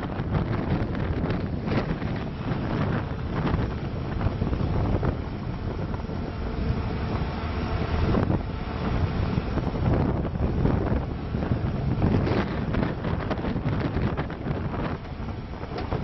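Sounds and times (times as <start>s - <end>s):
diesel engine running: 0.0s - 16.0s
wind buffeting microphone: 0.0s - 16.0s.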